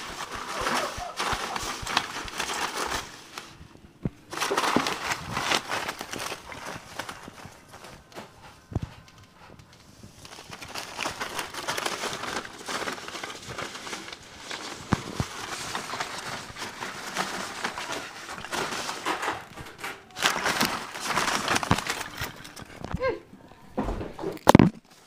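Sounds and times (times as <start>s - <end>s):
packing peanuts rustling and clicking: 0.0s - 23.2s, 24.2s - 25.0s.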